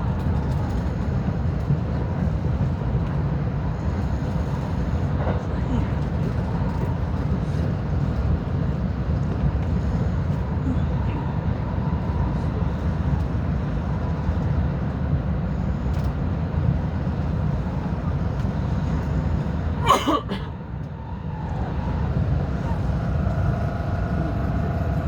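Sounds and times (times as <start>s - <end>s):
train rumble from inside carriage: 0.0s - 25.0s.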